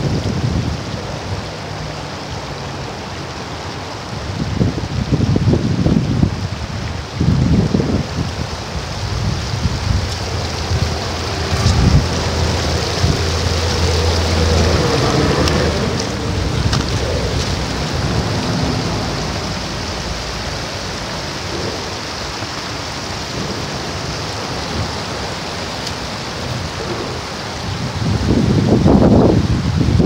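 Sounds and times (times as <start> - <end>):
traffic rushing on bridge overhead: 0.0 - 5.4, 8.0 - 30.0.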